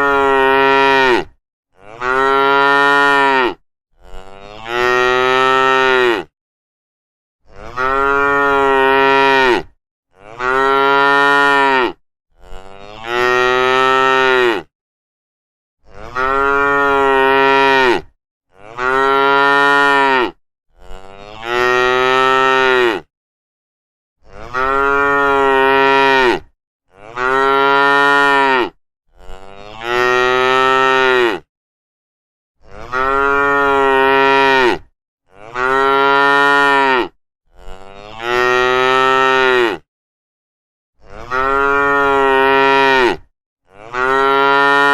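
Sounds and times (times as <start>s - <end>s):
cow mooing: 0.0s - 6.3s, 7.5s - 14.7s, 15.8s - 23.1s, 24.2s - 31.5s, 32.6s - 39.9s, 41.0s - 44.9s.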